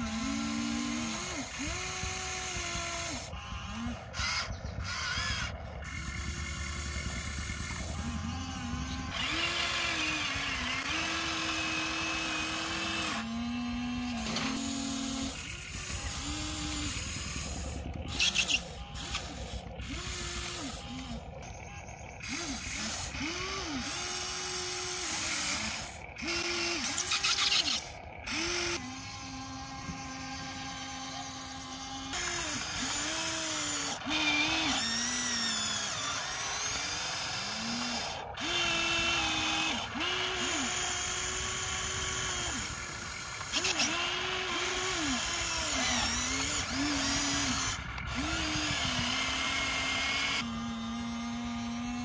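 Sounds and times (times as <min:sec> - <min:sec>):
toy excavator motors whining: 0:00.0 - 0:52.0.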